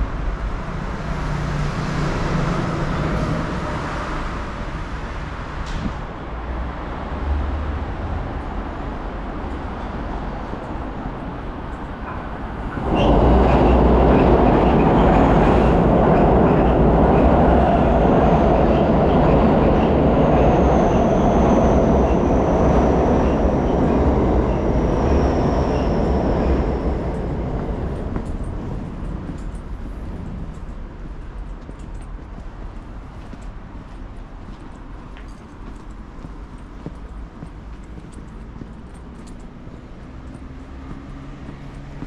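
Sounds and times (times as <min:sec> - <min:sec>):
train passing: 0:00.0 - 0:42.0.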